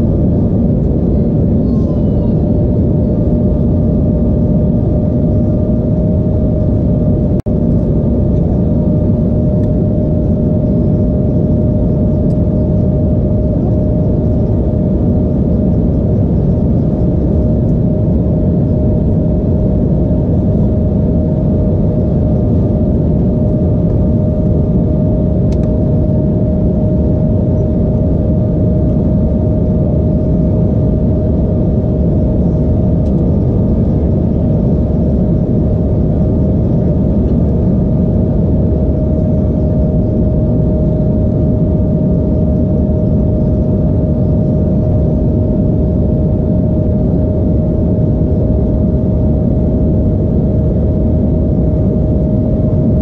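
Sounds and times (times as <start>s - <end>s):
jet engine drone: 0.0s - 53.0s
steady cabin hum: 0.0s - 53.0s.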